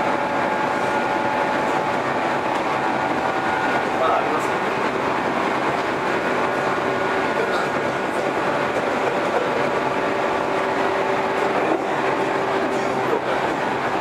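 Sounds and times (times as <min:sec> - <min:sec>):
train motor hum: 0:00.0 - 0:14.0
train wheels on rails: 0:00.0 - 0:14.0.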